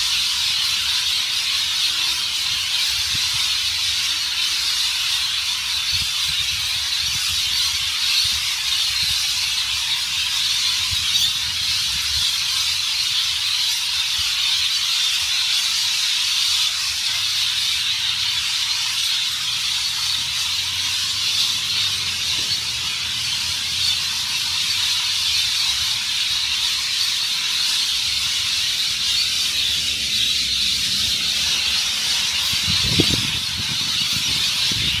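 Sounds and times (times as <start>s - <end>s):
flock of birds screeching: 0.0s - 35.0s.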